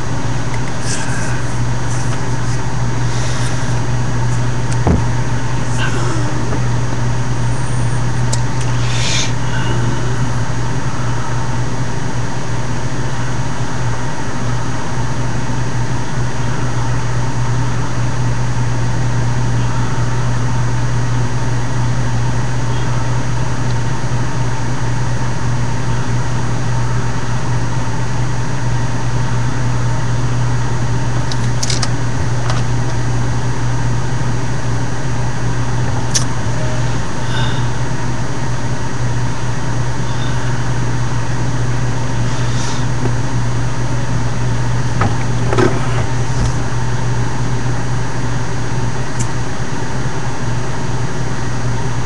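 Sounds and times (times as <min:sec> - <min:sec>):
steady low drone: 0:00.0 - 0:52.0.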